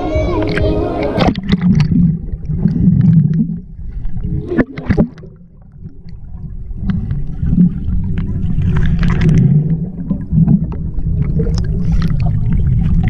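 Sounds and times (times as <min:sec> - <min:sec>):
underwater rumble of moving water: 0:00.0 - 0:13.0
water bubbling: 0:00.0 - 0:13.0
underwater clicks: 0:00.3 - 0:03.6, 0:04.4 - 0:06.2, 0:06.8 - 0:13.0.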